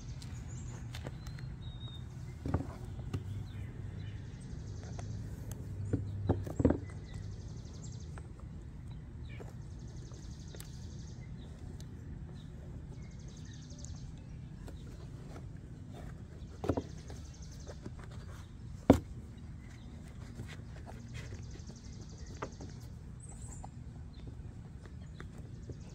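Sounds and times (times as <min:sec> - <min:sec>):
low outdoor hum: 0:00.0 - 0:25.9.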